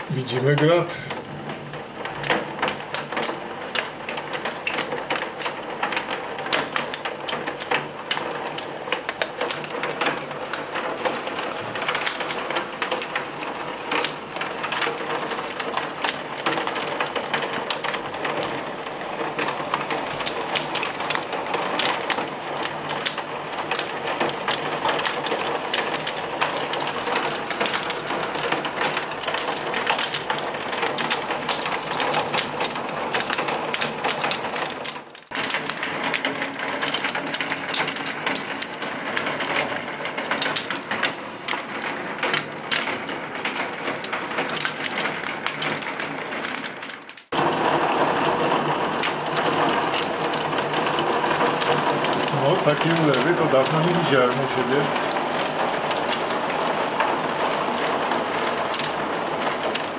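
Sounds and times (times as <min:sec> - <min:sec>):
hailstones ticking: 0:00.0 - 0:59.9
heavy rain on window: 0:00.0 - 0:59.9.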